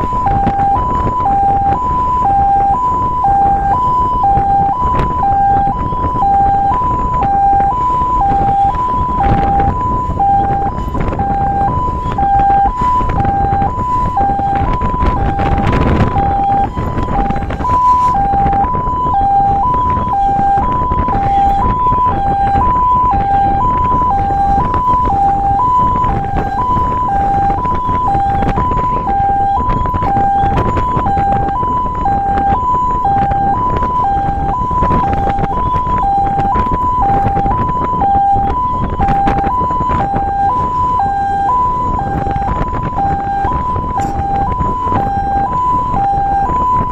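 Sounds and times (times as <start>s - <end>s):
road and wind rumble: 0.0s - 46.9s
two-tone fire engine siren: 0.0s - 46.9s.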